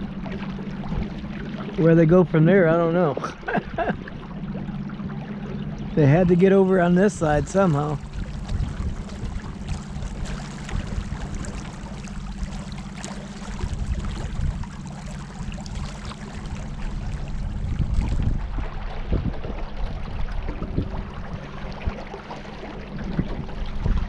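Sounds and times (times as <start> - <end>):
steady low rumble: 0.0 - 24.0
water trickling and splashing: 0.0 - 24.0.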